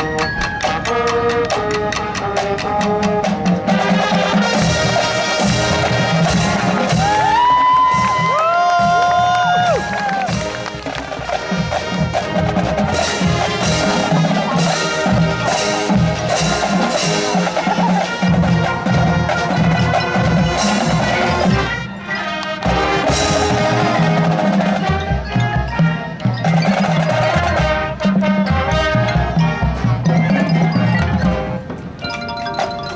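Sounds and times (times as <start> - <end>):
drums: 0.0 - 32.9
mallet percussion: 0.0 - 32.9
marching band playing: 0.0 - 32.9.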